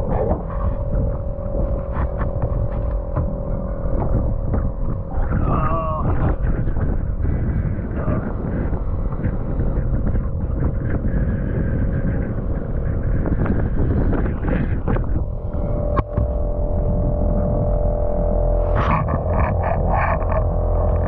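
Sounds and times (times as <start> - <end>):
boat engine rumbling: 0.0 - 21.0
steady hum: 0.0 - 21.0
wind buffeting microphone: 0.0 - 21.0.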